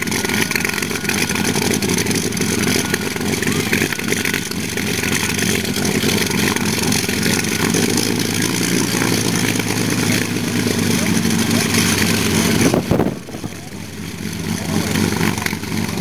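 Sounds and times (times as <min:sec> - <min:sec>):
piston aircraft engine drone: 0:00.0 - 0:16.0.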